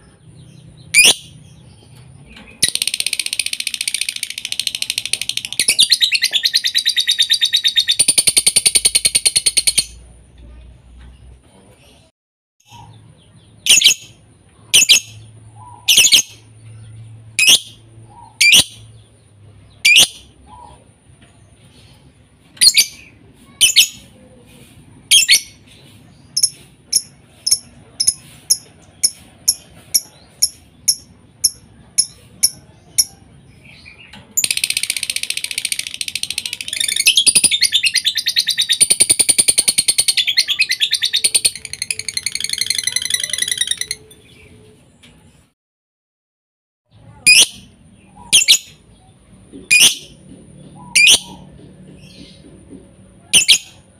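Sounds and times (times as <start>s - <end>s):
lovebird chirping and chattering: 0.0s - 10.1s, 12.6s - 20.9s, 21.6s - 44.6s, 47.0s - 52.4s, 53.3s - 53.9s.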